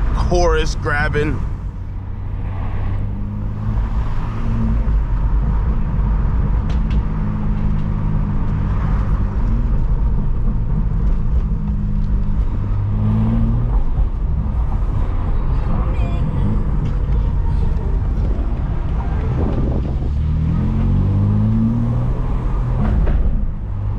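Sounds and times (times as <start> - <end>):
car engine running at low revs: 0.0 - 23.9.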